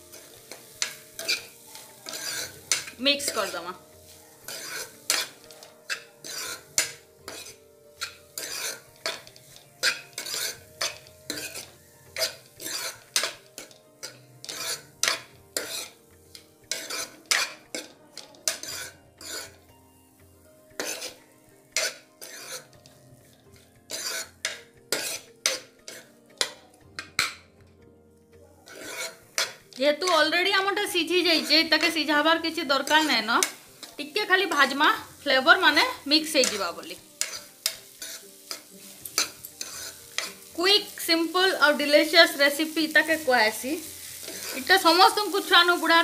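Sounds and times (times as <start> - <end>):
ladle scraping a pan: 0.0 - 19.7, 20.8 - 27.4, 28.6 - 29.8, 32.8 - 41.0, 43.0 - 46.0.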